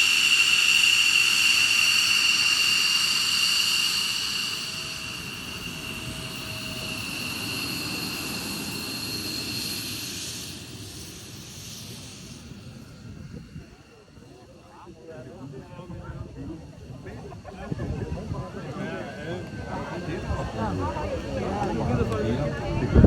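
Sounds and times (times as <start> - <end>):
jet engine running: 0.0 - 23.0.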